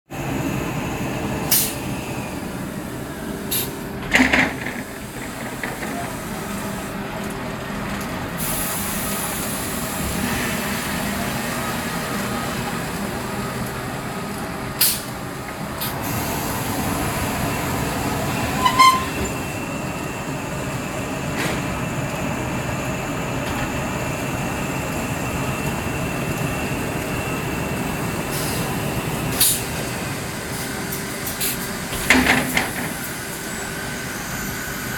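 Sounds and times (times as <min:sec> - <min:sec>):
conveyor line running: 0:00.1 - 0:34.9.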